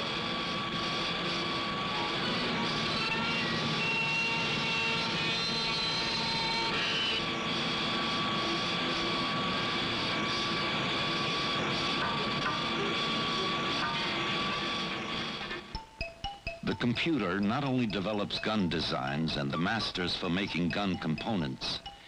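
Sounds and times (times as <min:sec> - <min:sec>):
milling machine drone with whining: 0:00.0 - 0:22.0.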